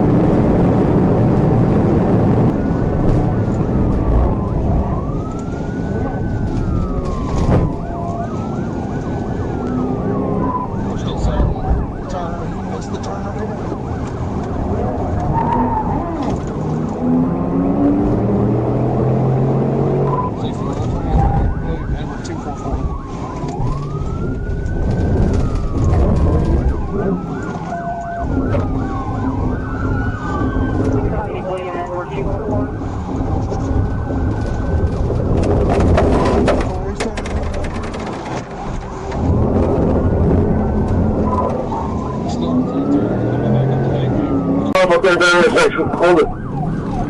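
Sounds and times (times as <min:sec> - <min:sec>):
police siren wailing: 0:00.0 - 0:47.0
road and engine noise: 0:00.0 - 0:47.0.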